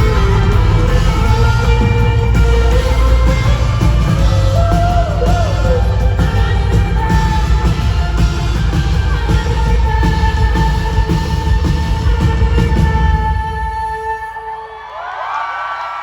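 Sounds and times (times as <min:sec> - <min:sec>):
crowd yelling and whooping: 0:00.0 - 0:13.2, 0:14.4 - 0:16.0
live pop-rock band playing: 0:00.0 - 0:13.9.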